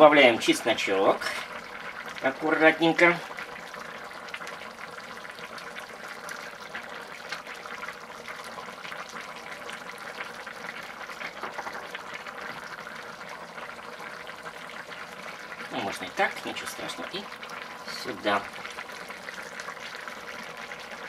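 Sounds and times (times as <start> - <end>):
food bubbling in a pot: 0.0 - 21.0.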